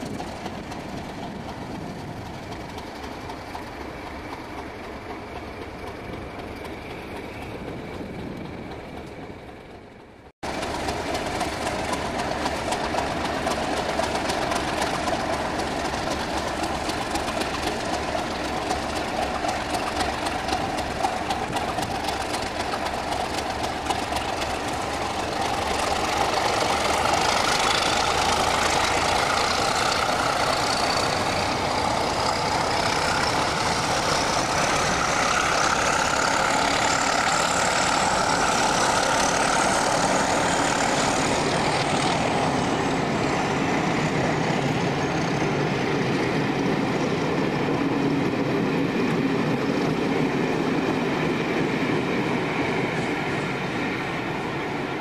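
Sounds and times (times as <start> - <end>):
diesel locomotive engine with whine: 0.0 - 55.0.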